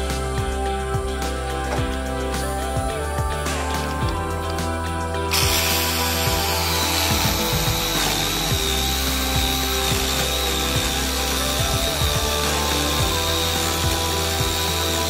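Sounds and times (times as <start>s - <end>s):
background music: 0.0s - 15.0s
power tool whining: 0.0s - 15.0s.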